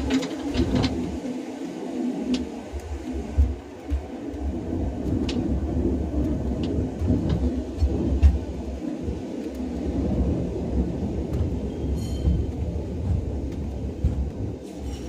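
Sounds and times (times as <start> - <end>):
rail clicks: 0.0 - 15.0
tram rumbling on rails: 0.0 - 15.0.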